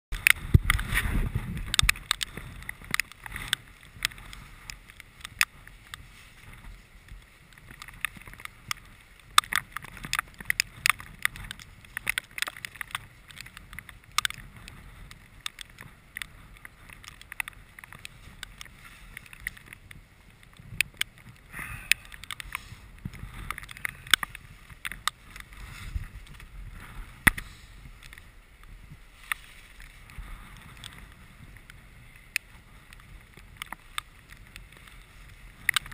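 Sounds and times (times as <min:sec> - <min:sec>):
climbing gear clicks and knocks: 0:00.1 - 0:35.9
wind rumble on microphone: 0:00.1 - 0:35.9.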